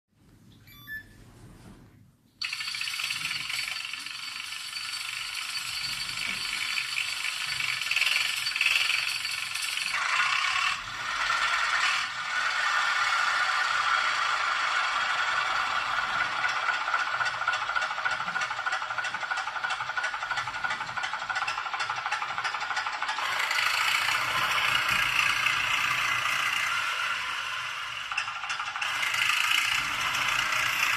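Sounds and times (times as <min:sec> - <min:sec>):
engine sound from small speaker: 0:02.4 - 0:30.9.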